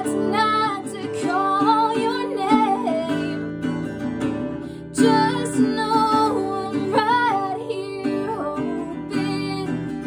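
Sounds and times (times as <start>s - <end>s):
woman singing: 0.0s - 3.8s, 4.6s - 10.0s
strummed acoustic guitar: 0.0s - 10.0s.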